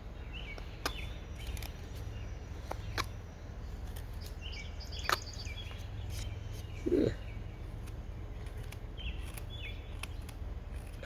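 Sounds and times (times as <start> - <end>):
low background rumble: 0.0 - 11.0
songbirds chirping: 0.0 - 11.0.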